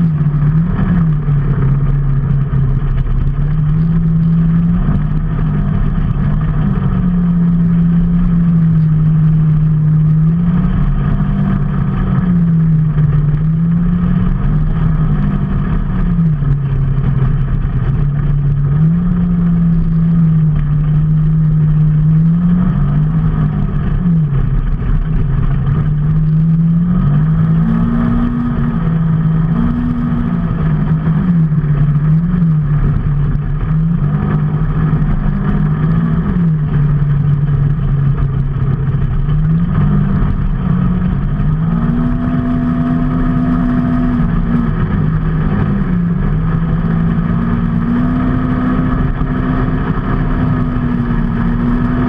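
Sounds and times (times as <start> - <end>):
road and wind noise: 0.0 - 52.0
vehicle engine running: 0.0 - 52.0.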